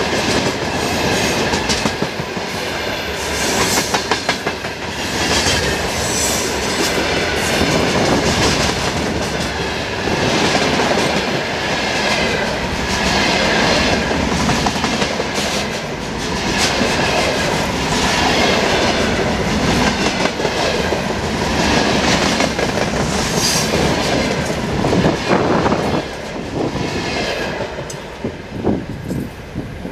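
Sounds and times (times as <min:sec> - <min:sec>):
freight train wheels clattering: 0:00.0 - 0:28.4.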